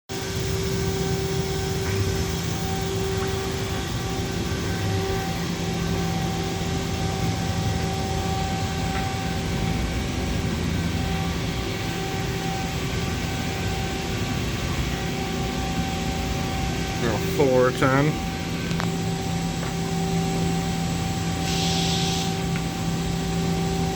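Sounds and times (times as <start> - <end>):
machine humming and whining: 0.1 - 23.9.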